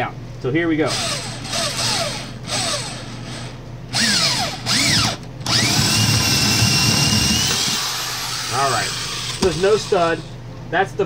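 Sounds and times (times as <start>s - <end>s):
electric drill boring: 0.9s - 10.3s.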